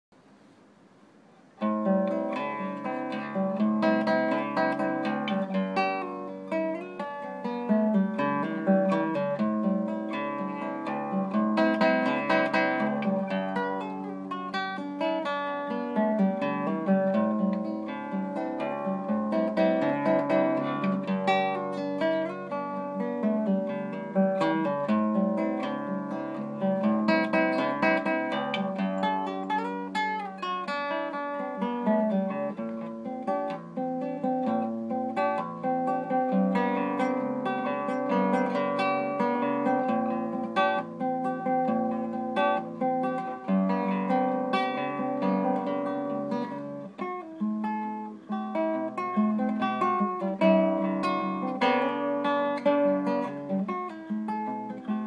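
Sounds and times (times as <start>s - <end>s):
fingerstyle classical guitar: 0.2s - 55.0s.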